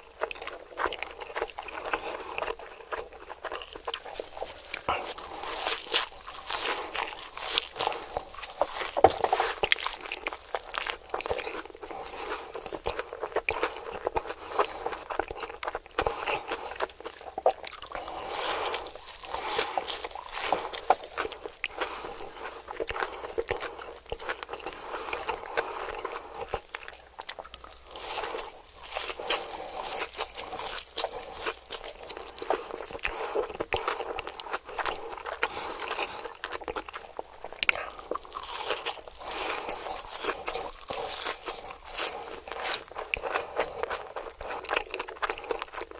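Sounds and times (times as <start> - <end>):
person chewing crispy food: 0.0 - 45.9.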